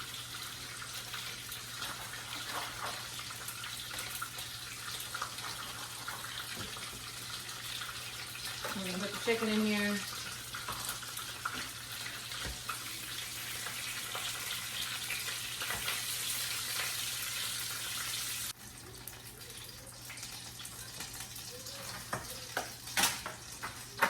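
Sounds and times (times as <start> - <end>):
chicken sizzling in frying pan: 0.0 - 24.0.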